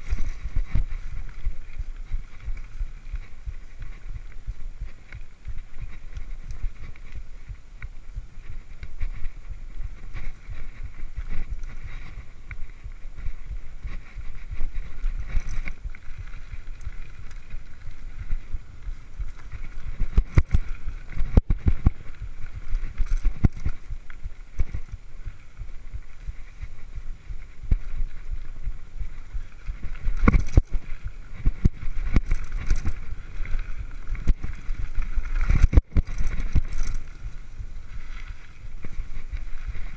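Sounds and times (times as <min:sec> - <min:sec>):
bike tyres rumbling on dirt: 0:00.0 - 0:39.9
wind on microphone: 0:00.0 - 0:39.9.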